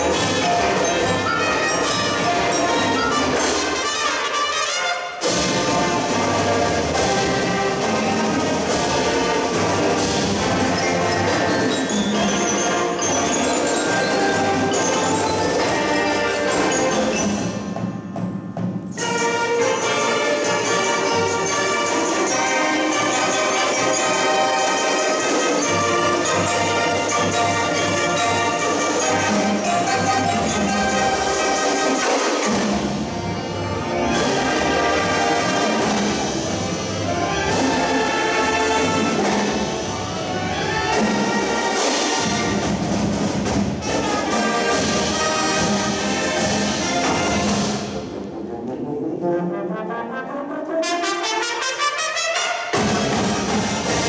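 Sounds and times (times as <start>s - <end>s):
drums: 0.0s - 48.4s, 52.6s - 54.0s
brass melody: 0.0s - 54.0s
marching band playing: 0.0s - 54.0s.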